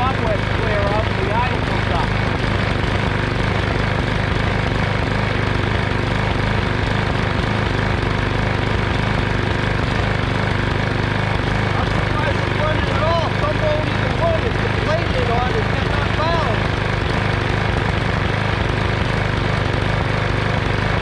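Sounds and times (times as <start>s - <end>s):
lawn mower engine idling: 0.0s - 21.0s.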